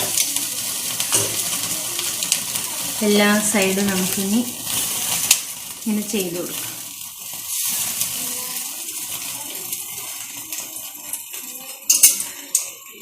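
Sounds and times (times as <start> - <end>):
chicken sizzling and crackling: 0.0 - 13.0.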